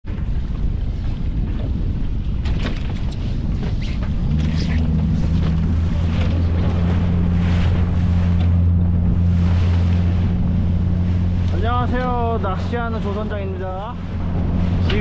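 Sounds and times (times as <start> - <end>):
wind buffeting microphone: 0.0 - 15.0
boat engine humming: 0.1 - 15.0
water splashing against boat hull: 0.1 - 15.0.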